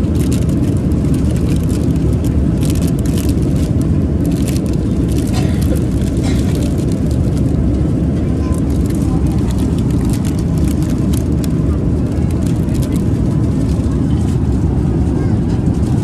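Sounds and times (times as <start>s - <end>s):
plastic bag crinkling: 0.0s - 7.6s, 8.5s - 13.8s
airliner cabin rumble: 0.0s - 16.0s.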